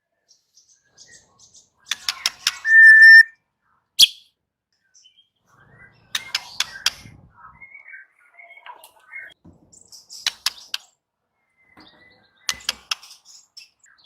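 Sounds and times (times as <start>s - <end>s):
bird singing: 0.1s - 14.0s.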